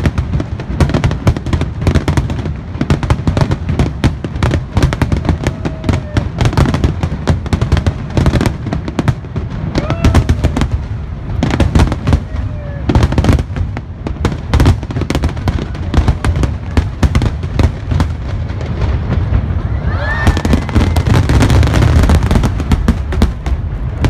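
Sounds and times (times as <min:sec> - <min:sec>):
fireworks bursting: 0:00.0 - 0:24.0
fireworks crackling: 0:00.0 - 0:24.0.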